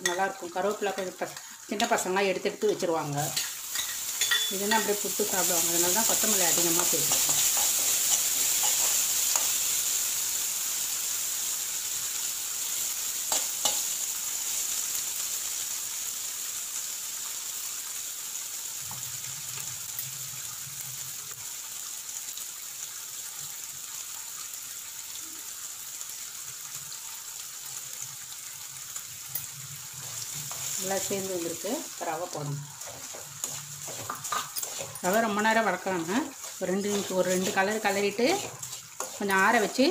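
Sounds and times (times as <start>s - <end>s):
oil sizzling: 0.0s - 39.9s.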